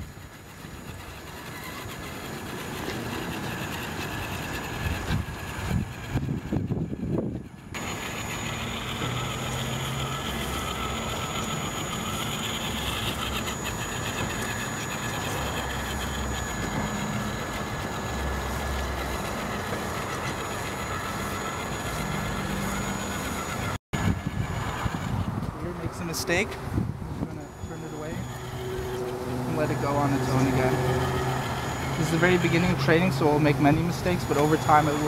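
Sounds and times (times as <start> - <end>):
electric motor whine: 0.0 - 35.0
small tyres rumbling on concrete: 0.0 - 35.0.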